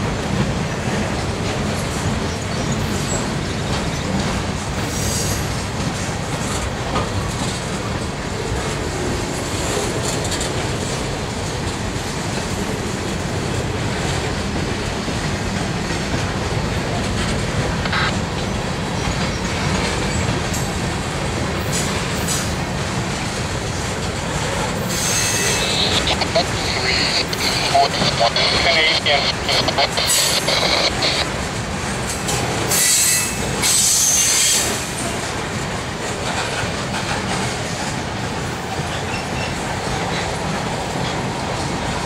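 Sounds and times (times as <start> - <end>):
steel wheels clattering on rail: 0.0 - 26.0, 31.3 - 42.0
freight train rolling past: 0.0 - 42.0.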